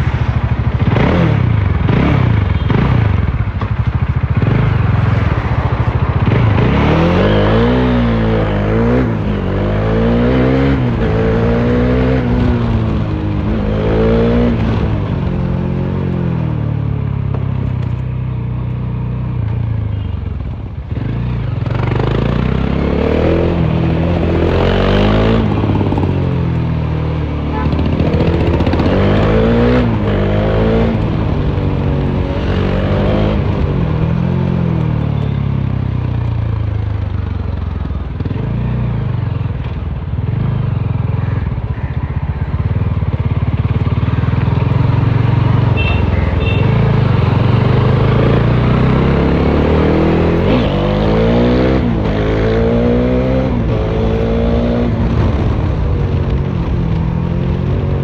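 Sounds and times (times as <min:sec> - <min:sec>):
motorcycle engine revving: 0:00.0 - 0:18.1, 0:20.7 - 0:58.0.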